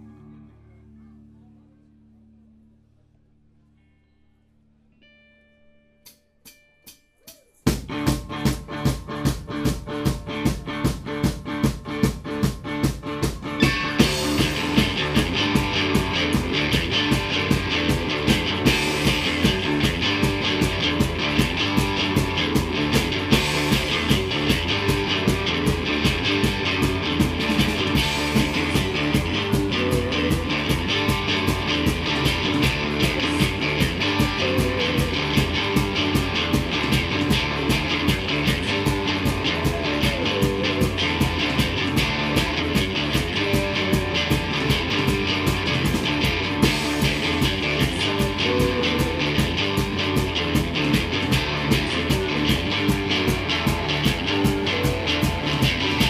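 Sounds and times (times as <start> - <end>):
bass guitar: 0.0 - 6.2, 7.3 - 56.0
electric guitar: 7.6 - 56.0
fast drum beat: 7.7 - 56.0.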